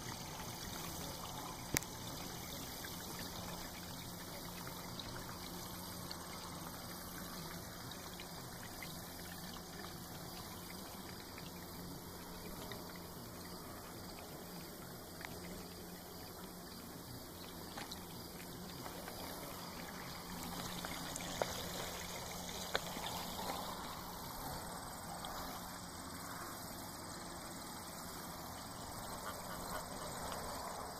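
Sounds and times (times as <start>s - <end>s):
faint low hum: 0.0s - 30.9s
water trickling in a pond: 0.0s - 30.9s.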